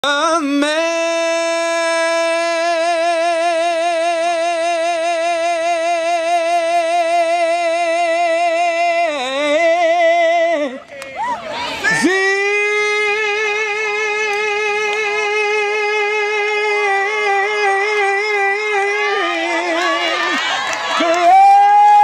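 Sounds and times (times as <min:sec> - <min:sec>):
man singing a long high note: 0:00.0 - 0:11.0, 0:11.9 - 0:20.4, 0:21.0 - 0:22.0.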